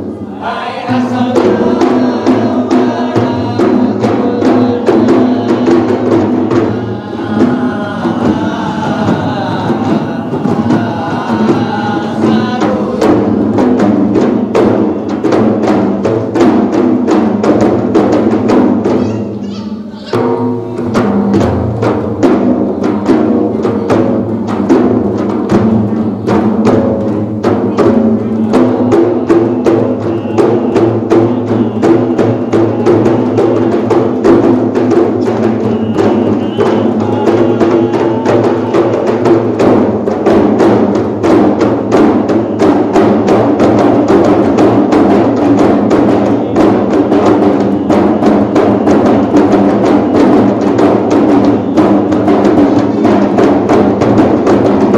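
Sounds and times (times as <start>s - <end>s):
frame drums beating rhythm: 0.0s - 54.9s.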